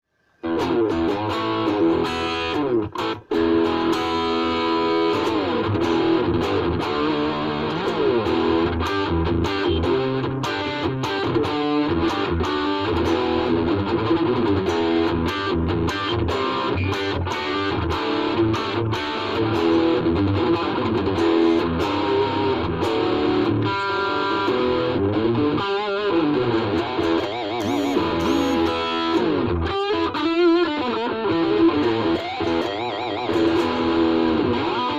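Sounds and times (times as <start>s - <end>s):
electric guitar playing: 0.4s - 34.9s.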